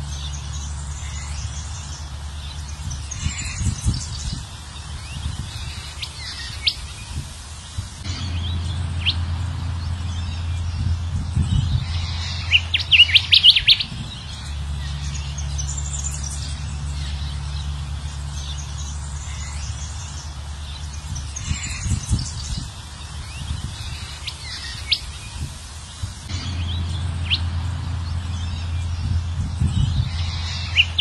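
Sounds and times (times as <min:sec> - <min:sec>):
bird chirping calls: 0:00.0 - 0:31.0
steady low hum: 0:00.0 - 0:31.0.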